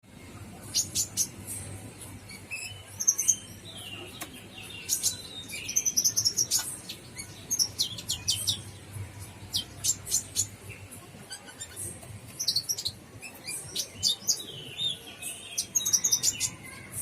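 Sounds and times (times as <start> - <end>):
sunbird chirps and trills: 0.5 - 17.0.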